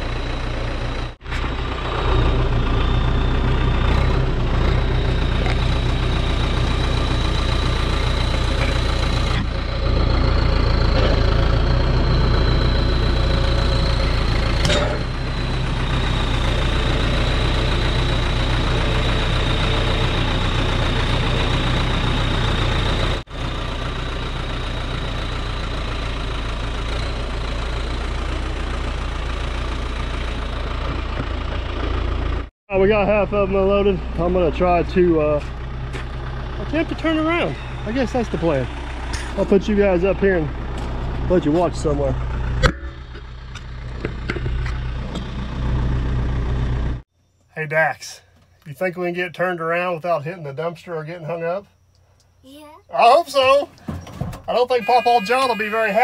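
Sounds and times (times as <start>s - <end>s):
diesel engine idling: 0.0s - 47.1s, 47.7s - 56.0s.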